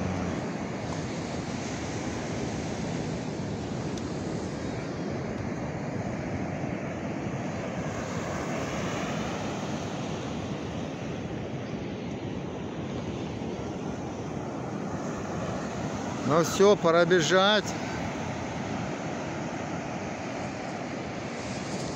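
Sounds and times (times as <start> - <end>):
ocean surf breaking: 0.0 - 21.9.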